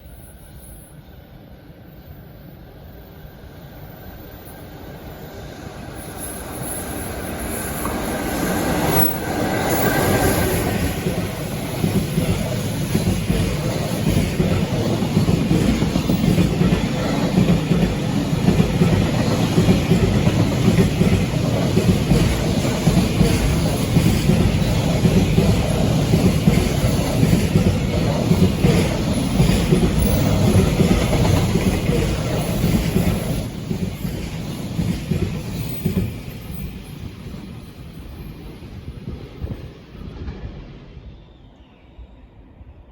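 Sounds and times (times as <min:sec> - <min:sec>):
train wagons rumbling past: 0:03.7 - 0:41.4.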